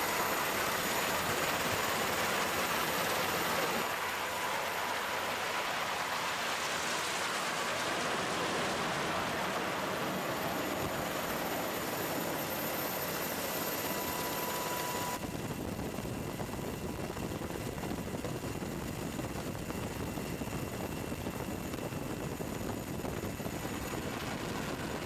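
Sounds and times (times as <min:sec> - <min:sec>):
aircraft engine rushing: 0:00.0 - 0:25.0.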